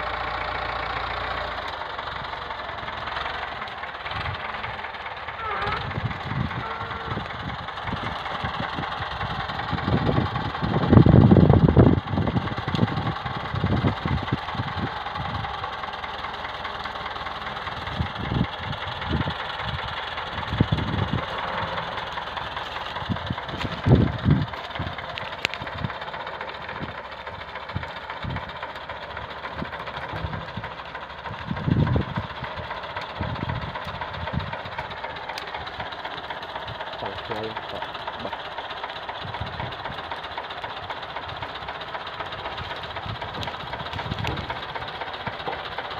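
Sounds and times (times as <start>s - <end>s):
low rumbling bursts: 0.0s - 45.9s
tractor diesel engine running: 0.0s - 45.9s.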